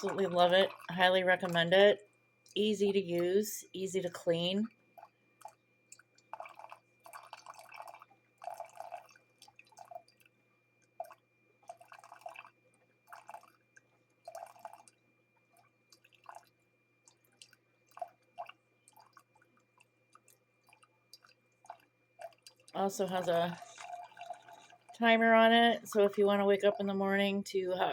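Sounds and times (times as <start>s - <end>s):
coffee maker brewing: 0.0s - 27.9s
coffee sputtering and dripping: 0.0s - 27.9s.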